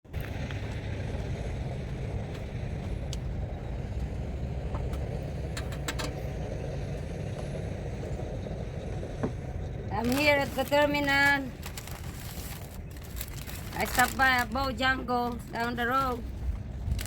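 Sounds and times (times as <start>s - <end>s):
vehicle rumble: 0.1s - 17.0s.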